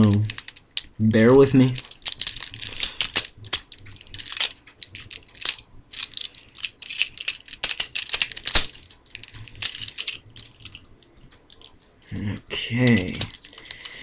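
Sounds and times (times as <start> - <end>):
plastic figure joints clicking: 0.0 - 14.0.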